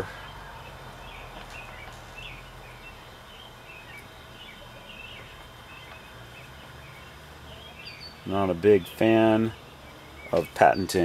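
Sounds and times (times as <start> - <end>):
faint low hum: 0.0 - 11.0
small birds chirping: 0.0 - 11.0.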